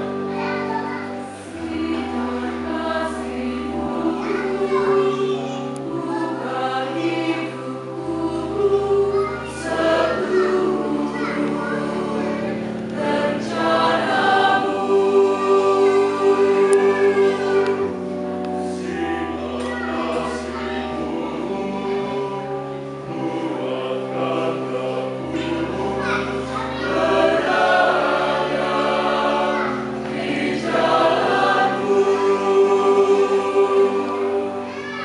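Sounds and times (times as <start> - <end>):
mixed choir singing a hymn: 0.0 - 35.0.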